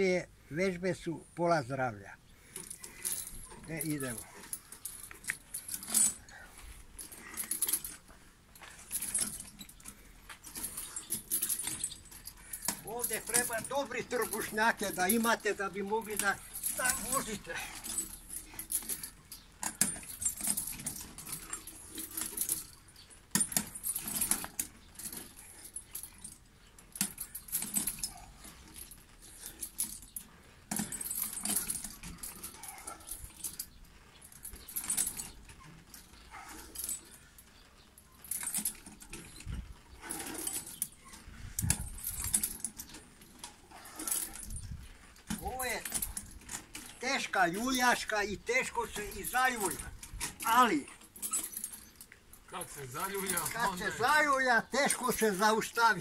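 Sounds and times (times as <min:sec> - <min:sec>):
swing chains clinking and rattling: 0:00.0 - 0:56.0.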